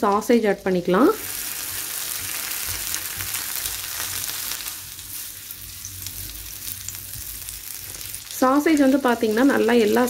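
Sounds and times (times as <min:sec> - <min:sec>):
sausages sizzling in butter: 0:00.0 - 0:10.0.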